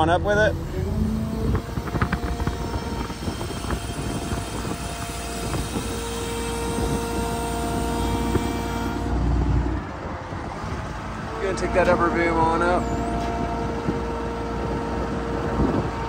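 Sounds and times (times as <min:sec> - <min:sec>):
diesel truck engine running: 0:00.0 - 0:16.0
hydraulic whine: 0:00.0 - 0:16.0
wind buffeting microphone: 0:00.0 - 0:16.0.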